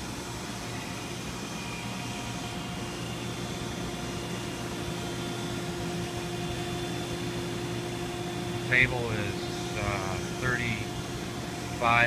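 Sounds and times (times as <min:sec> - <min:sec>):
low factory drone: 0:00.0 - 0:12.0.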